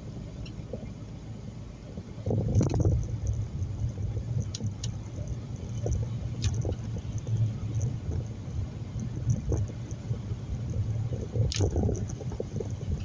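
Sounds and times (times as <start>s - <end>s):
car engine and road noise: 0.0s - 13.0s
light clicks and rattles: 2.3s - 13.0s.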